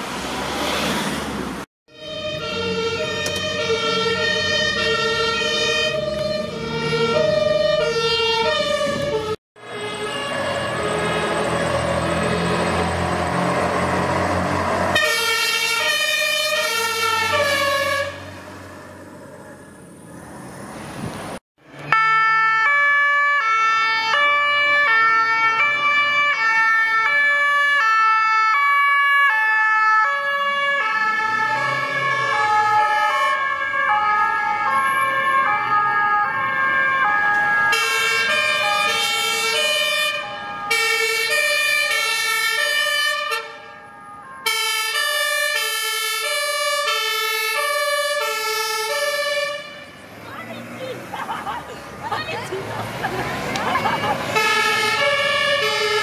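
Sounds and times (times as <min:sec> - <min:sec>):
two-tone fire engine sirens: 0:01.9 - 0:19.7, 0:21.6 - 0:56.0.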